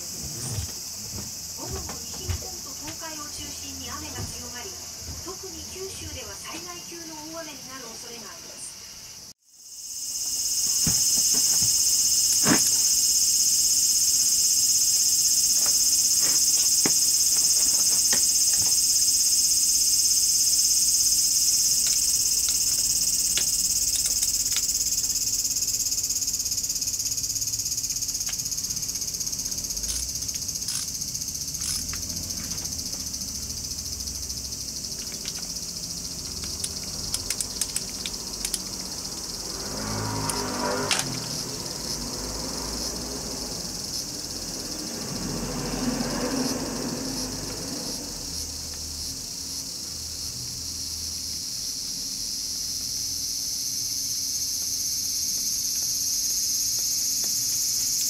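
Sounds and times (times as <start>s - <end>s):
high insect buzzing: 0.0s - 7.8s, 8.9s - 58.0s.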